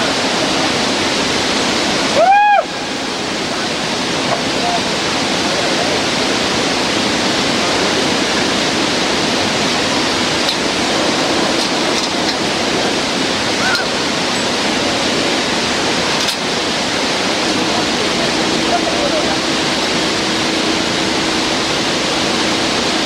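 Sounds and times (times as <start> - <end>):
river rushing through rapids: 0.0 - 23.0.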